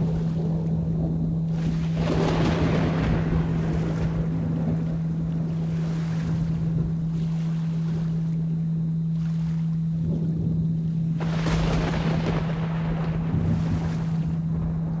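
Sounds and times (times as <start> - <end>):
low rolling thunder: 0.0 - 7.1, 10.0 - 15.0
rain: 0.0 - 8.0, 9.7 - 15.0
steady humming tone: 0.0 - 15.0.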